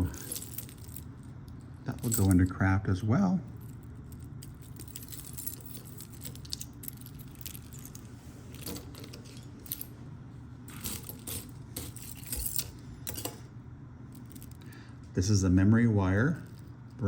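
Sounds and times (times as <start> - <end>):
jewelry clinking and rattling: 0.0 - 2.6, 3.5 - 13.5, 14.1 - 14.7, 16.2 - 17.0
steady low hum: 0.0 - 17.0.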